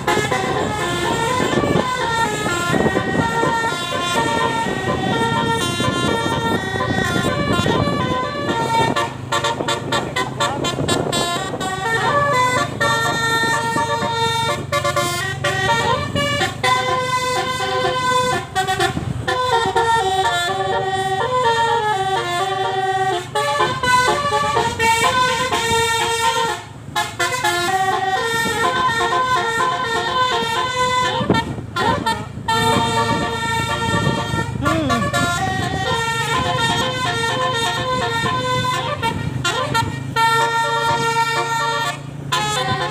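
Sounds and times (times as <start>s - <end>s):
musical air horns: 0.0s - 42.9s.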